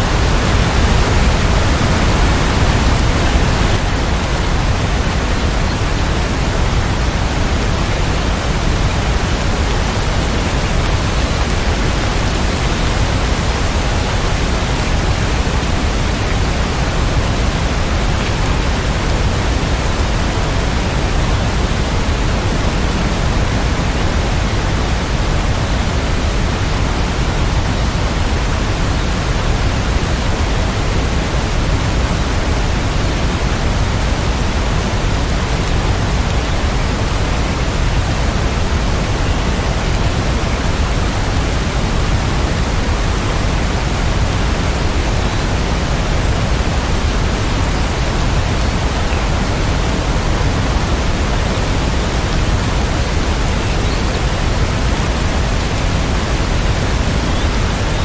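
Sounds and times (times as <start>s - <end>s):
rain falling steadily: 0.0s - 58.0s.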